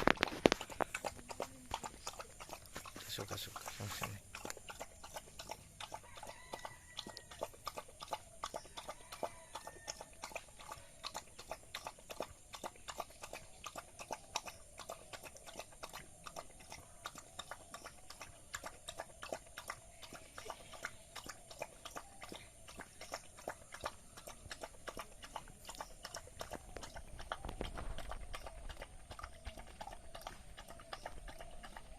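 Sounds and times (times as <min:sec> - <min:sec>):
dog chewing wetly: 0:00.0 - 0:31.9.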